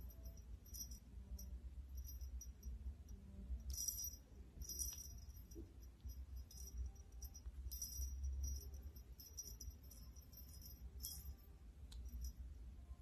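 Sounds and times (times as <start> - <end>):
small bell jingling: 0.0 - 12.9.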